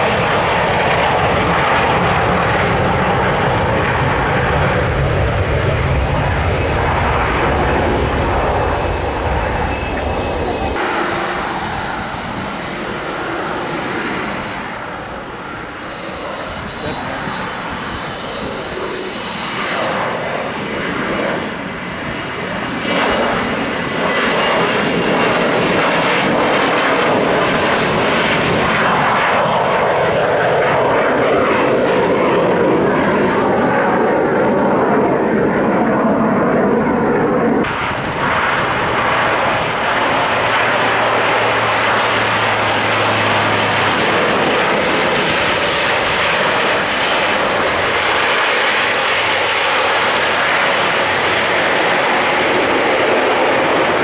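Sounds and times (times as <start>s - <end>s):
jet engines at takeoff: 0.0s - 54.0s
turboprop engines running: 0.0s - 54.0s.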